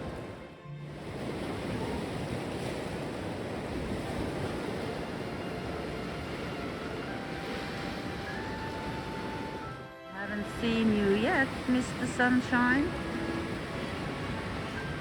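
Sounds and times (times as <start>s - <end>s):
sea waves breaking on beach: 0.0s - 15.0s
wind on microphone: 0.0s - 15.0s.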